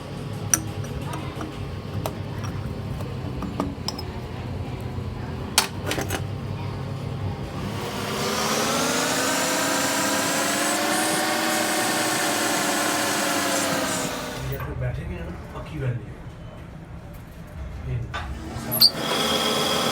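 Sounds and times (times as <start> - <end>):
lathe motor whine: 0.0 - 14.6, 18.3 - 19.9.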